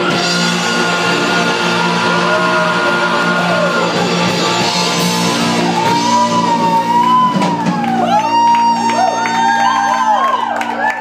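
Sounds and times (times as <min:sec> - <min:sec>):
rock band playing live: 0:00.0 - 0:10.9.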